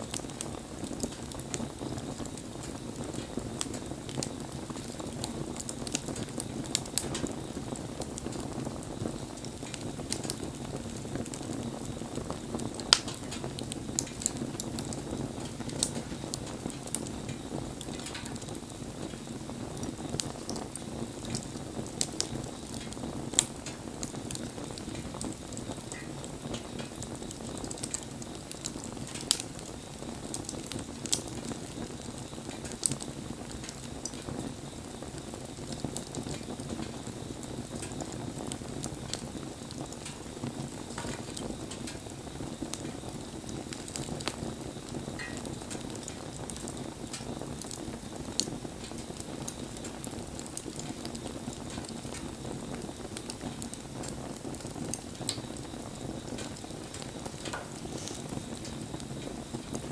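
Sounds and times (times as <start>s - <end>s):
fire crackles and pops: 0.0s - 59.9s
rush of flames: 0.0s - 59.9s.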